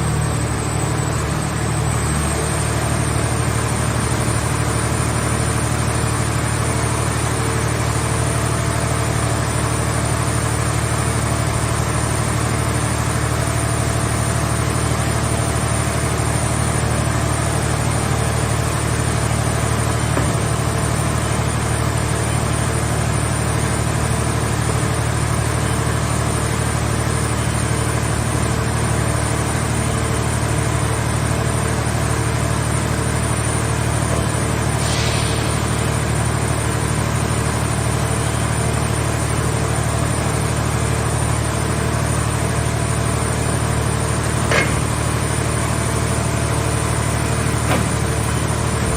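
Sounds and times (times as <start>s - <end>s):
hydraulic power unit humming: 0.0s - 48.9s.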